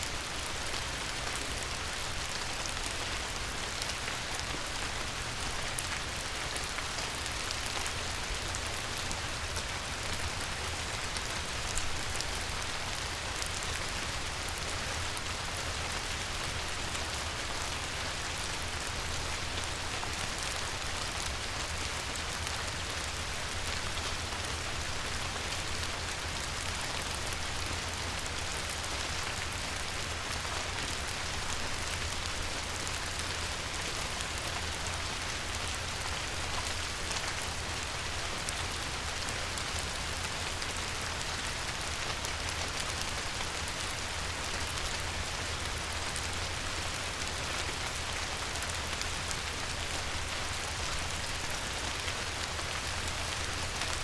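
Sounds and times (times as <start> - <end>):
light rain pattering on water: 0.0 - 54.0.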